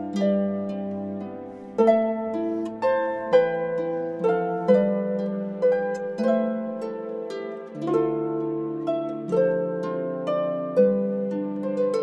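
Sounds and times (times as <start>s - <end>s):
plucked harp-like string melody: 0.0s - 12.0s.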